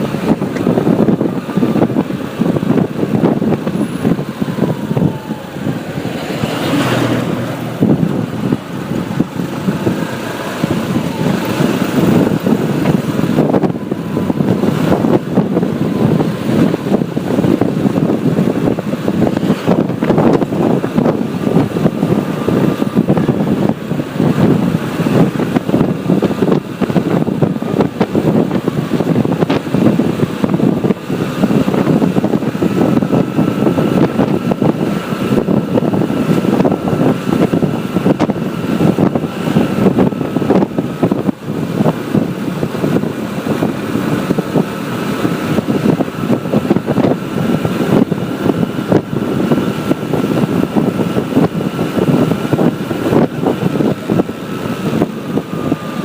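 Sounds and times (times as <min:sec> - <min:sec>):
air rushing past: 0:00.0 - 0:56.0
motorbike engine hum: 0:00.0 - 0:56.0.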